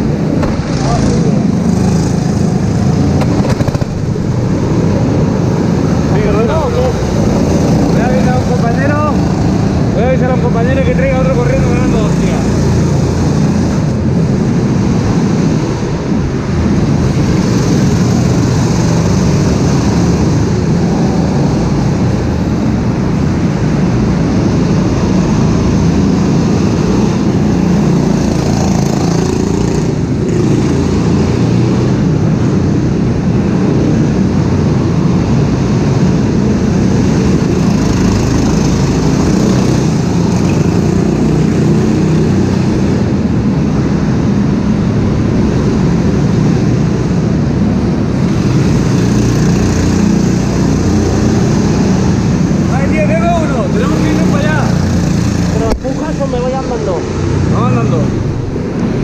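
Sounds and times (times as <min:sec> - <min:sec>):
go-kart engine running: 0:00.0 - 0:14.6, 0:24.2 - 0:35.5, 0:36.2 - 0:59.0.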